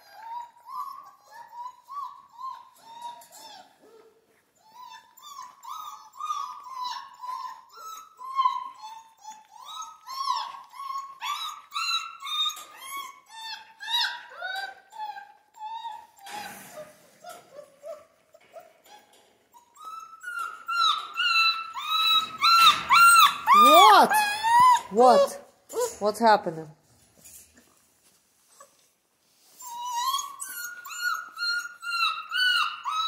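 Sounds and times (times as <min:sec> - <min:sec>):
puppies whining and yelping: 0:00.0 - 0:26.0, 0:28.6 - 0:33.0.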